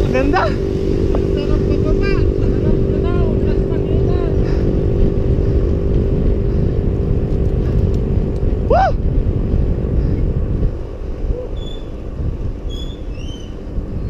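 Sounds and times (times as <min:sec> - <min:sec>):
tyre road noise: 0:00.0 - 0:14.0
wind rushing over microphone: 0:00.0 - 0:14.0.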